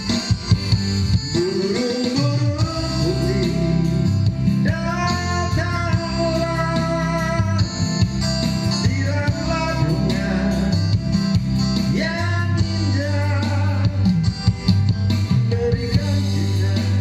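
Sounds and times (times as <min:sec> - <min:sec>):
pop ballad with guitar and bass: 0:00.0 - 0:17.0.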